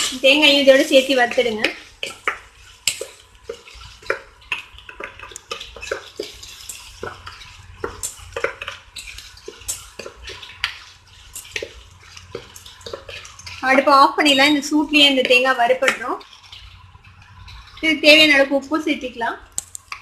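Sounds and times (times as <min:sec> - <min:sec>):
spatula scraping a pan: 0:00.0 - 0:18.3
dry lentils rattling in a pan: 0:00.0 - 0:20.0.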